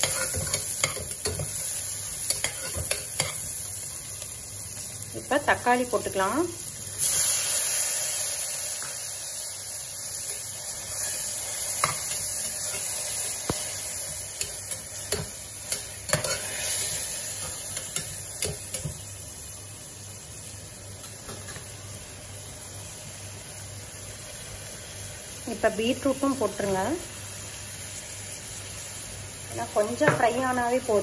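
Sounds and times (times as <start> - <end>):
vegetables sizzling in butter: 0.0 - 31.0.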